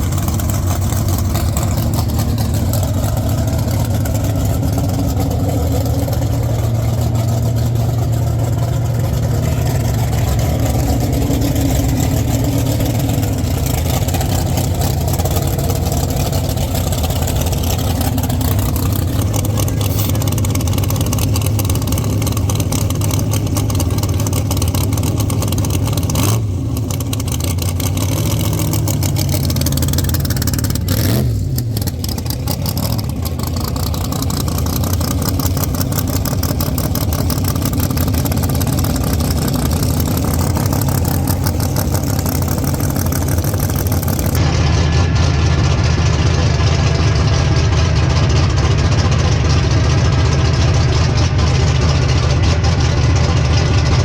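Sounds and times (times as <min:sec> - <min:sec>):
drag race car engine idling: 0:00.0 - 0:54.0.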